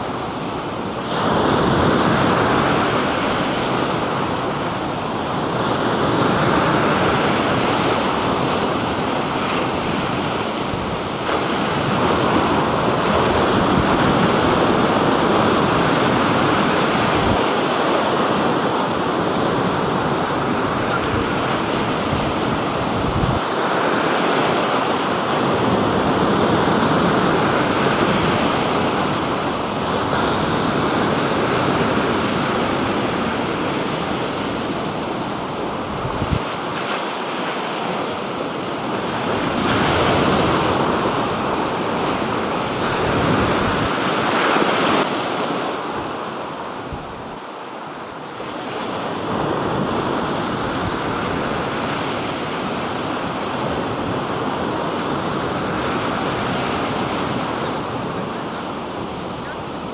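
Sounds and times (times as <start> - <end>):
waves washing onto shore: 0.0 - 59.9.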